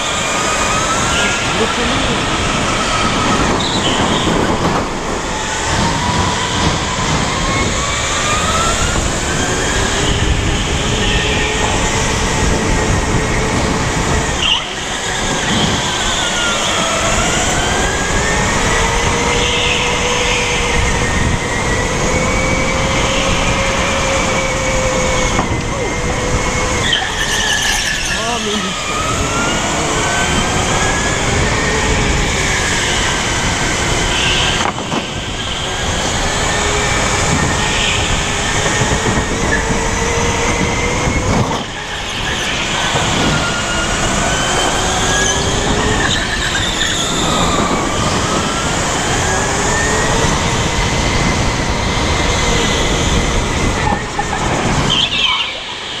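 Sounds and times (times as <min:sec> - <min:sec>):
kart engine whining: 0:00.0 - 0:56.0.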